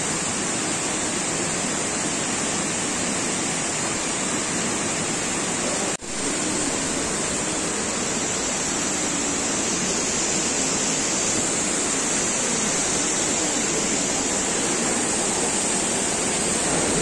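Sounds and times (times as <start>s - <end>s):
river water rushing: 0.1s - 17.0s.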